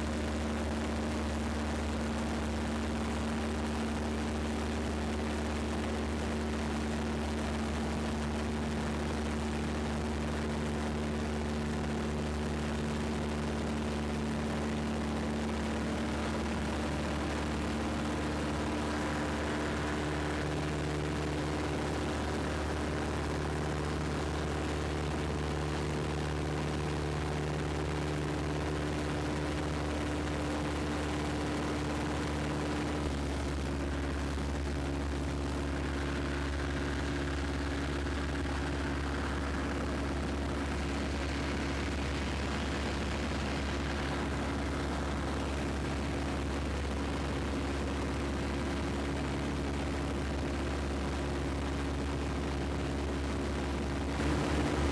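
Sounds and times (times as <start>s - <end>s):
aircraft engine and propeller: 0.0s - 54.9s.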